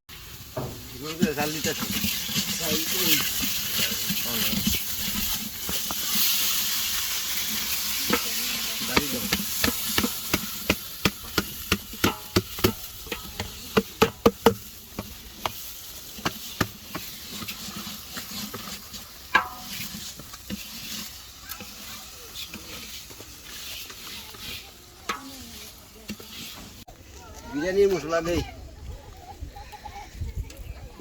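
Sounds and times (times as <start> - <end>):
food sizzling in a pot: 0.1 - 26.9
spoon scraping a pot: 1.1 - 26.8.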